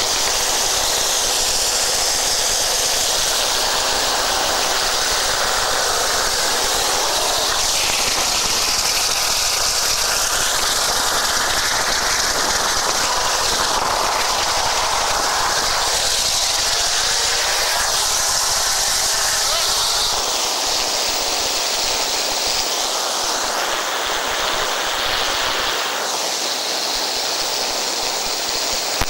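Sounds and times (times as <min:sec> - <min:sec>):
helicopter rotors and turbines: 0:00.0 - 0:29.0.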